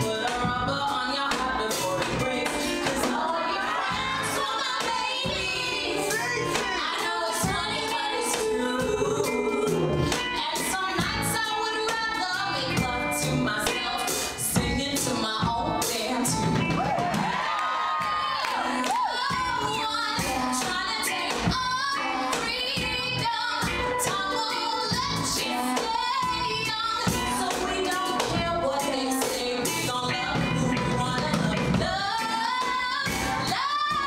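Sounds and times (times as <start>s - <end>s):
women singing together: 0.0s - 16.6s, 17.2s - 34.0s
band with steady drum beat: 0.0s - 34.0s.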